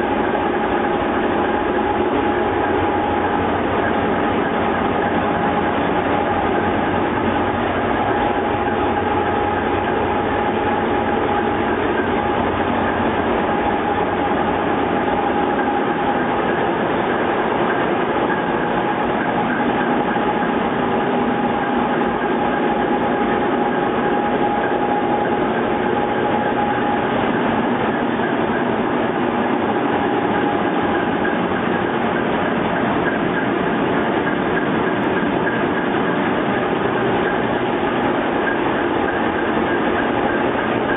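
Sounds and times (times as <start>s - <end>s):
diesel engine drone: 0.0s - 40.9s
rail noise: 0.0s - 40.9s
steady whine: 0.0s - 40.9s.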